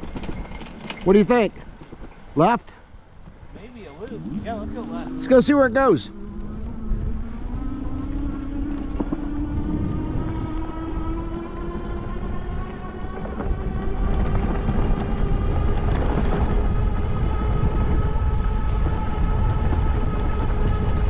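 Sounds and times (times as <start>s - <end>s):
wind rumble on microphone: 0.0s - 21.0s
electric hub motor whining: 3.6s - 21.0s.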